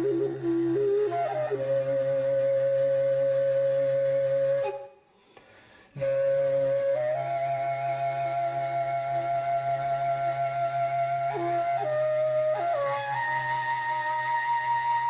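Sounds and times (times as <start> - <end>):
flute playing slow melody: 0.0 - 5.0, 6.0 - 15.0.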